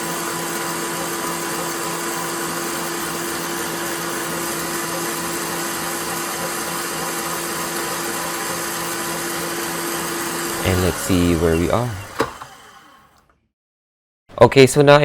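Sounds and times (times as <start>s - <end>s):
stand mixer motor whirring: 0.0s - 13.4s.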